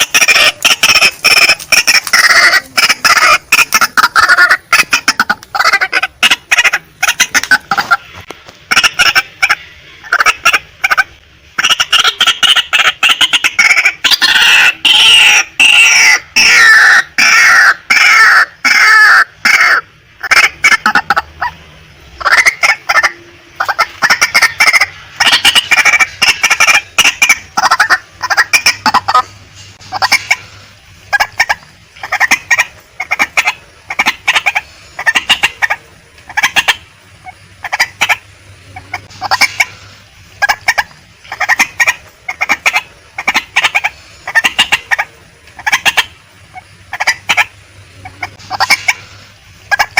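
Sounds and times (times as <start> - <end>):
bird harsh clucking calls: 0.0 - 49.9.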